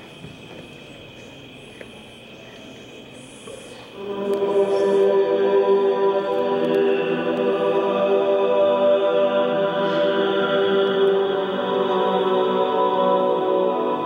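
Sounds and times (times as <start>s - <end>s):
choir-like voices holding a chord: 0.9s - 14.0s.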